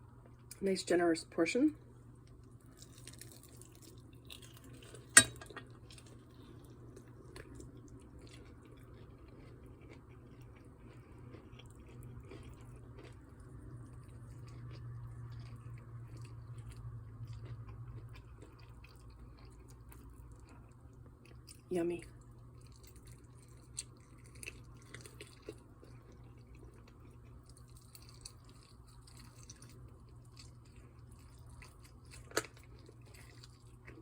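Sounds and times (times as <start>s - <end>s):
steady low hum: 0.0s - 34.0s
person chewing crunchy food: 2.1s - 34.0s.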